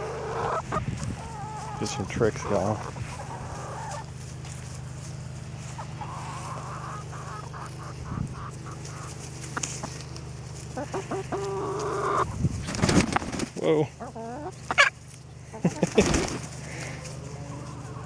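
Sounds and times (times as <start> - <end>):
hens clucking: 0.0 - 18.0
steady low hum: 0.0 - 18.0.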